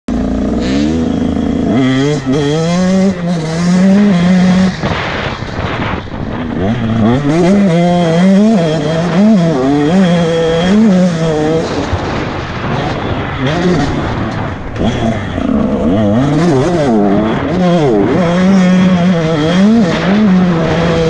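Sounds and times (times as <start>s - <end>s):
motocross bike engine revving: 0.1s - 21.0s
rushing noise: 0.1s - 21.0s.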